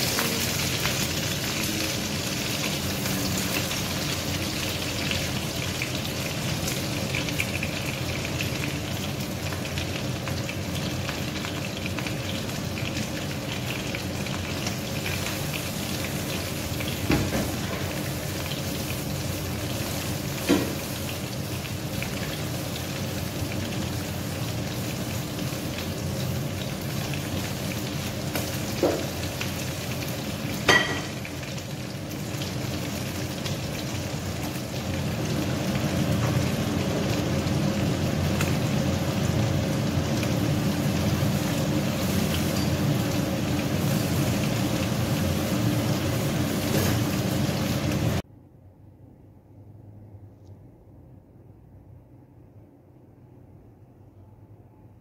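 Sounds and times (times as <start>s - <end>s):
chicken frying in hot oil: 0.0s - 48.3s.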